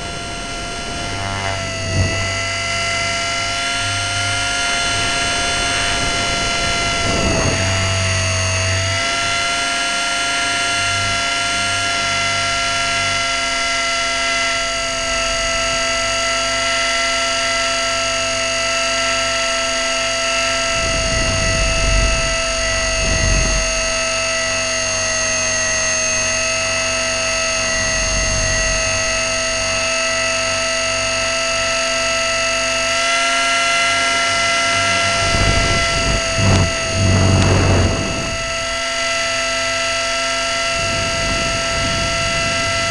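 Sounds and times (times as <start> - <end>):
wind rumble on microphone: 0.0 - 17.8, 19.6 - 42.9
electric motor high-pitched whine: 0.0 - 42.9.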